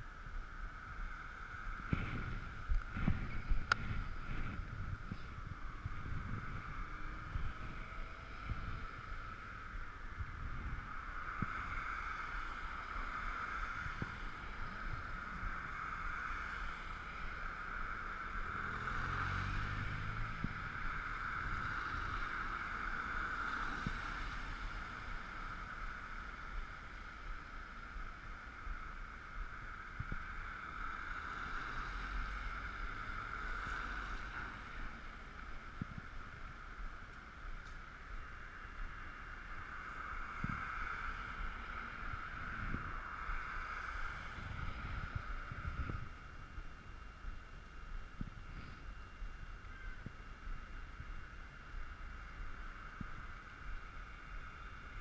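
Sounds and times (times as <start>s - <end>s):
wind rumble: 0.0s - 55.0s
tyres hissing on wet road: 0.6s - 47.2s.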